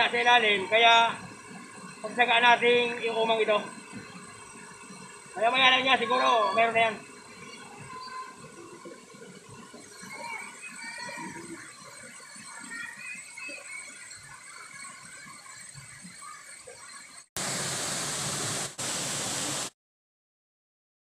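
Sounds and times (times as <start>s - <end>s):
faint high chirps: 0.0s - 17.3s
rushing river water: 0.0s - 19.7s.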